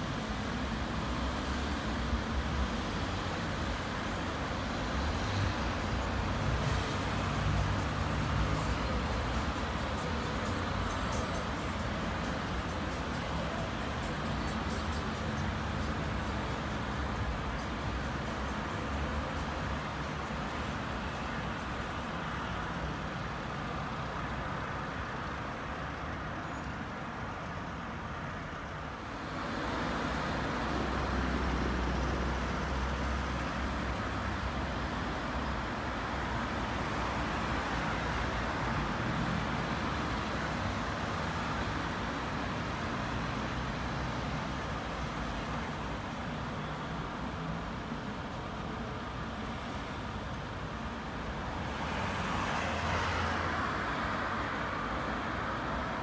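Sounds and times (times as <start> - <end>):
passing cars: 0.0 - 56.0.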